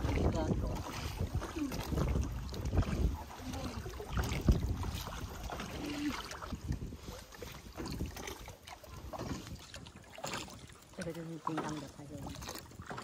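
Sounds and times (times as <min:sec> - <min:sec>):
wind buffeting microphone: 0:00.0 - 0:10.6
oars knocking and splashing: 0:00.0 - 0:13.0.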